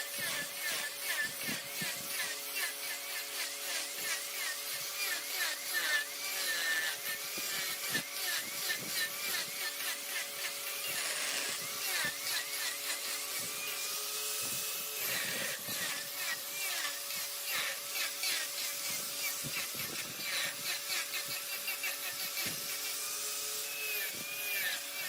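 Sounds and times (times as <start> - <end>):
turning tool scraping wood: 0.0 - 25.0
wood lathe running: 0.0 - 25.0.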